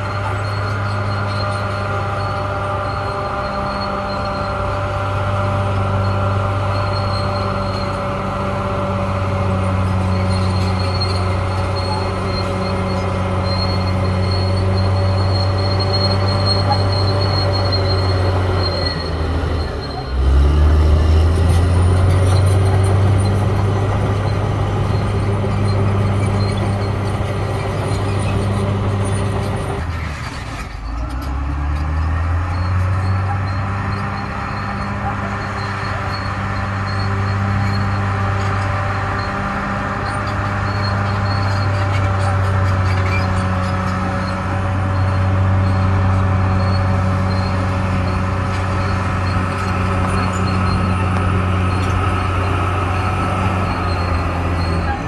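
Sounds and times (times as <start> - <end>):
bulldozer diesel engine drone: 0.0 - 55.0.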